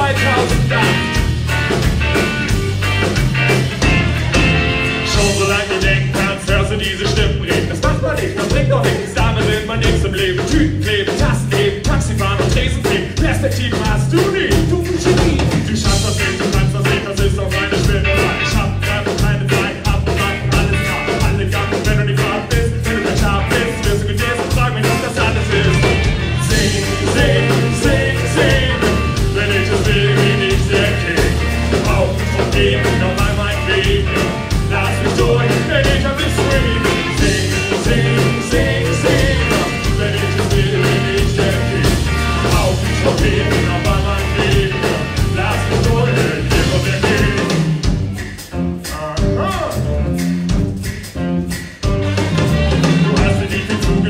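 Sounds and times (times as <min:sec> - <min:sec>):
live reggae band playing: 0:00.0 - 0:54.0.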